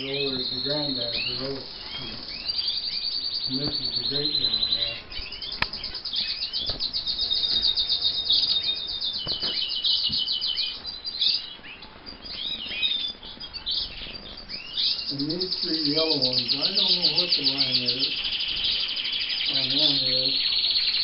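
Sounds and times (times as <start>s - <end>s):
canaries trilling and chirping: 0.0s - 21.0s.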